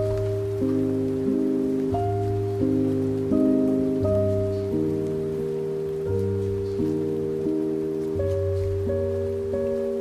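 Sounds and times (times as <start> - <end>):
rain hiss: 0.0 - 10.0
soft sustained low notes: 0.0 - 10.0.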